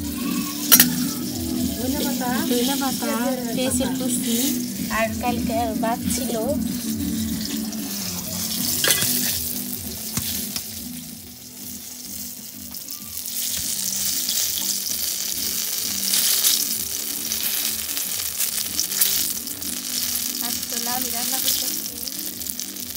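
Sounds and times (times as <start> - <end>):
slices frying in hot oil: 0.0 - 22.9.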